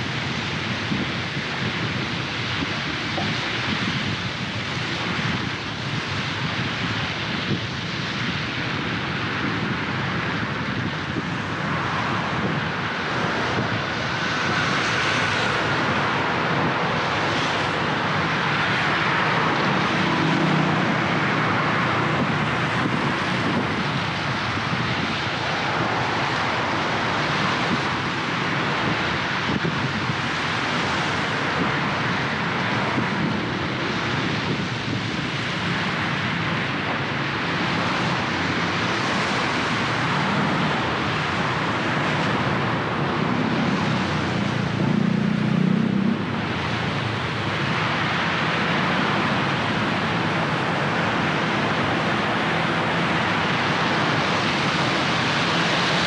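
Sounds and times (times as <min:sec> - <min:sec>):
tyres hissing on wet road: 0:00.0 - 0:56.0.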